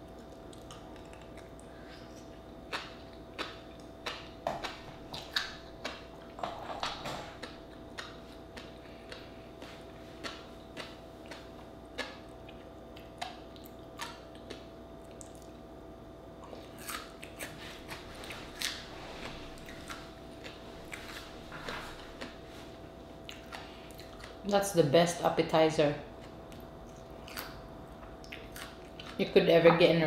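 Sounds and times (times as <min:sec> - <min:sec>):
wet chewing: 0:00.0 - 0:15.6, 0:16.4 - 0:24.5, 0:26.1 - 0:29.4
faint steady hum: 0:00.0 - 0:30.0.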